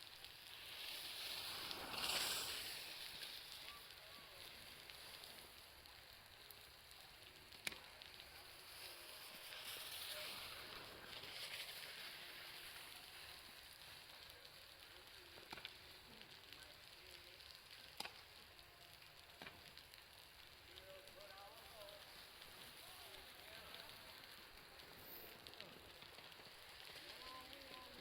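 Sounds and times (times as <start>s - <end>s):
meltwater dripping from roof: 0.0s - 28.0s.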